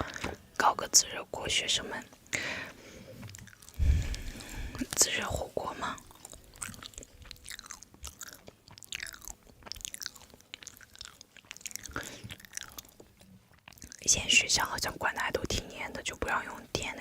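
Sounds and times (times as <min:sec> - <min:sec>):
chewing sticky food: 0:03.1 - 0:17.0.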